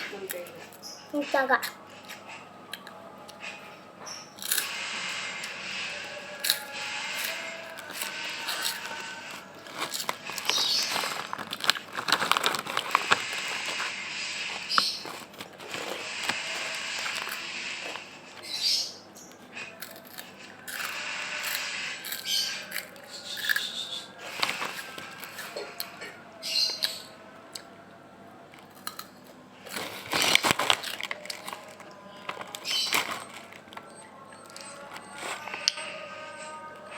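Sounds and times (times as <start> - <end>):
person chewing crunchy chips: 4.4 - 18.5, 19.6 - 27.7, 28.6 - 36.1.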